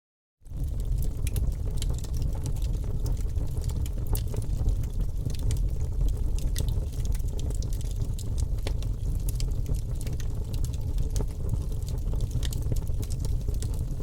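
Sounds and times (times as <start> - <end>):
wood fire crackling and popping: 0.4 - 14.0.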